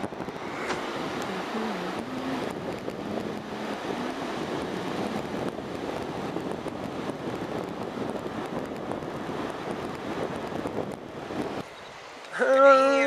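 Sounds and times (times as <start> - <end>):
wind buffeting microphone: 0.0 - 12.0
ocean surf breaking: 0.0 - 13.0.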